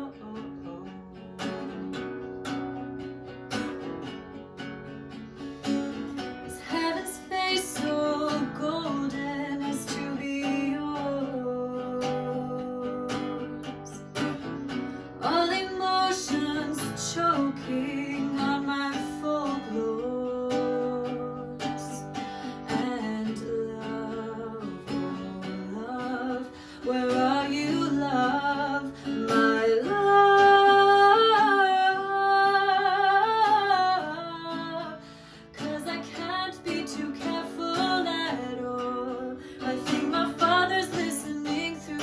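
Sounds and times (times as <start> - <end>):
person singing: 0.0 - 2.3, 5.6 - 42.0
acoustic guitar: 0.0 - 42.0.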